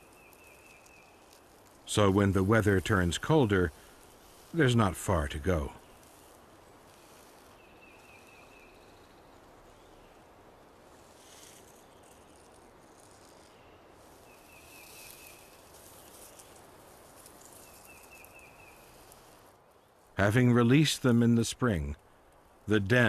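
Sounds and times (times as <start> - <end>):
soft bursts of higher hiss: 0.0 - 23.0
steady low hiss: 0.0 - 23.0.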